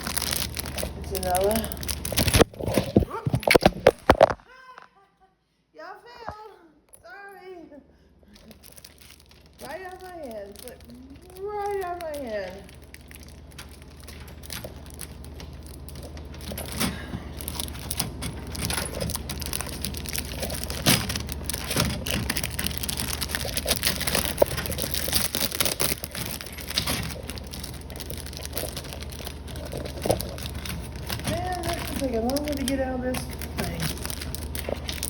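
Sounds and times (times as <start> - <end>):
plastic packaging crinkling: 0.0 - 4.8, 8.3 - 35.0.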